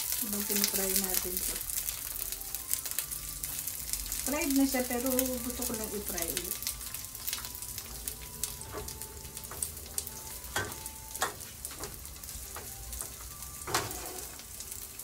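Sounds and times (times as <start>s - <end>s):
crackles and pops of frying: 0.0s - 15.0s
food sizzling in oil: 0.0s - 15.0s.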